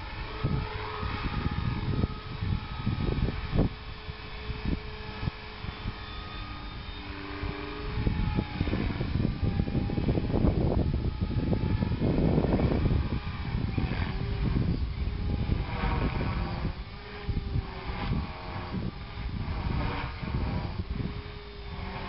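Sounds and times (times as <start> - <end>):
model helicopter motor whine: 0.0 - 22.0
wind buffeting the microphone: 0.0 - 22.0.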